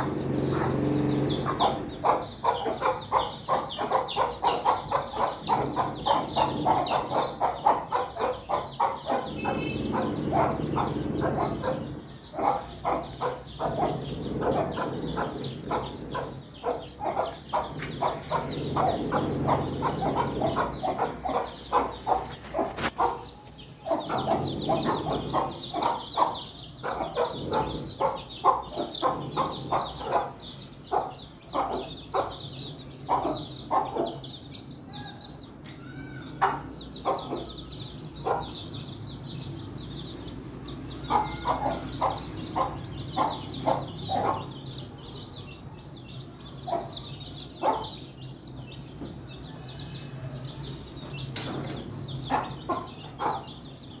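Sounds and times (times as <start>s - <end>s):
hens clucking: 0.0s - 45.3s, 46.2s - 54.0s
chicks peeping: 0.0s - 54.0s.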